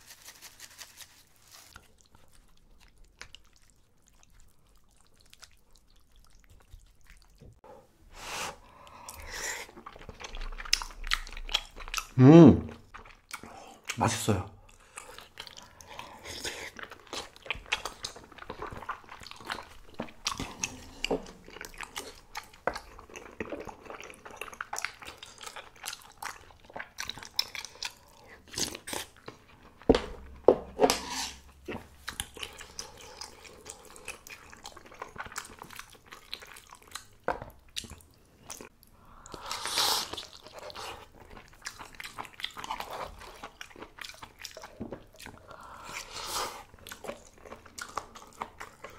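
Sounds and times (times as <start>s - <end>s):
wet chewing and crunching: 0.0s - 7.6s, 9.0s - 14.0s, 14.6s - 30.4s, 31.4s - 48.9s.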